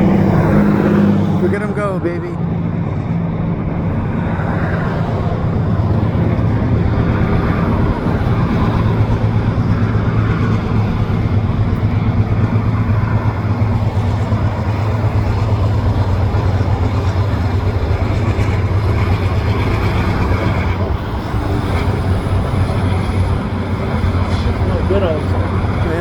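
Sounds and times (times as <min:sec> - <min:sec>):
diesel freight train: 0:00.0 - 0:26.0
highway traffic rumble: 0:00.0 - 0:26.0.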